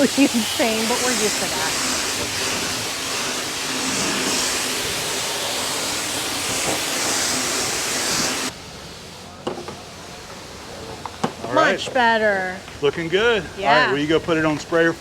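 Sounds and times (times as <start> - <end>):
pressure washer spraying water: 0.0 - 12.4.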